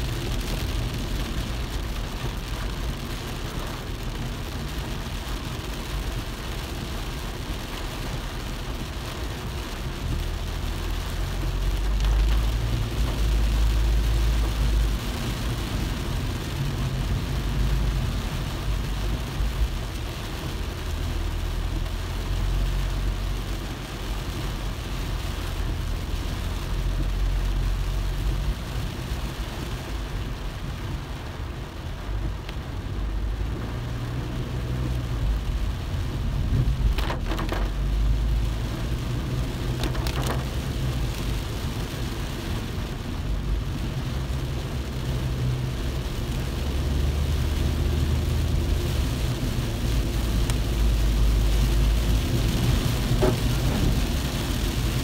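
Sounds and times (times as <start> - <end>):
car driving rumble: 0.0 - 55.0
rain hiss on wet road: 0.0 - 55.0.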